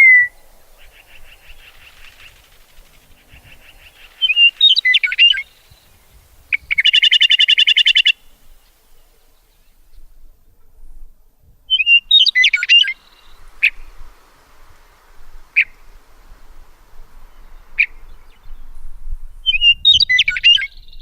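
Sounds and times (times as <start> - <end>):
bird chirping: 0.0 - 10.6, 11.7 - 21.0.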